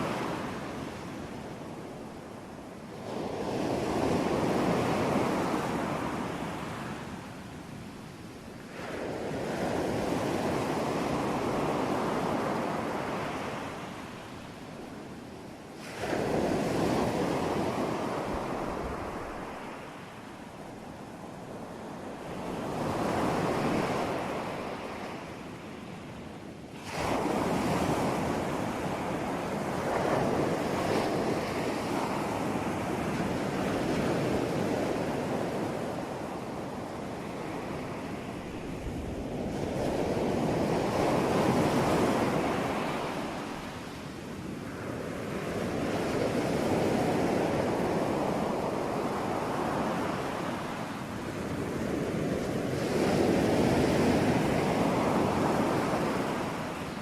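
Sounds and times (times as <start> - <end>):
waves breaking and washing ashore: 0.0 - 57.0.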